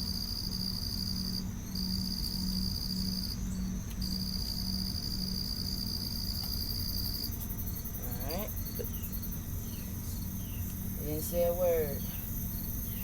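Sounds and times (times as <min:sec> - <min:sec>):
cricket trilling: 0:00.0 - 0:13.0
faint pulsing insect song: 0:00.0 - 0:13.0.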